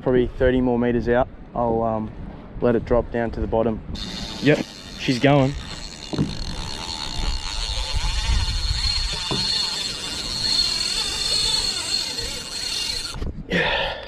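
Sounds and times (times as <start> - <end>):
wind gusting on microphone: 0.0 - 14.0.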